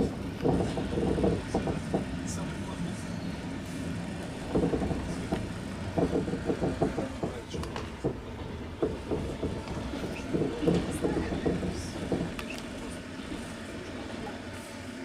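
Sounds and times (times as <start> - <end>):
wheels knocking and rattling: 0.0 - 14.5
train rumbling on rails: 0.0 - 15.0.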